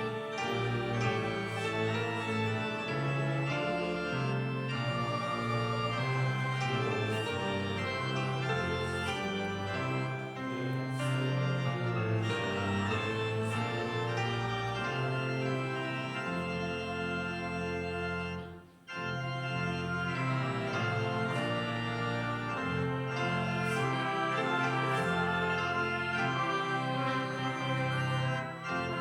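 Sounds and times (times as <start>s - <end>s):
church organ chords: 0.0s - 29.0s.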